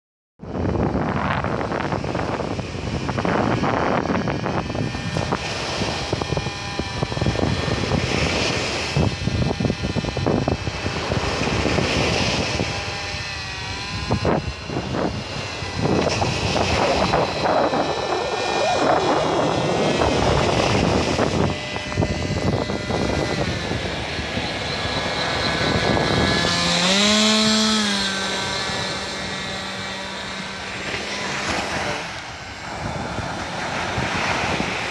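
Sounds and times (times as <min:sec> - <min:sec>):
propeller motor whine: 0:00.4 - 0:34.9
wind buffeting microphone: 0:00.4 - 0:34.9.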